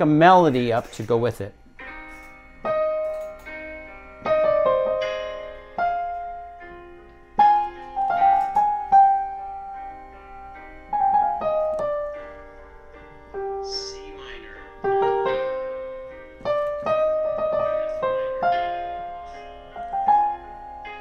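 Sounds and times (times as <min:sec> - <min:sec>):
slow piano chords: 0:00.0 - 0:21.0
single-note piano melody: 0:01.8 - 0:21.0.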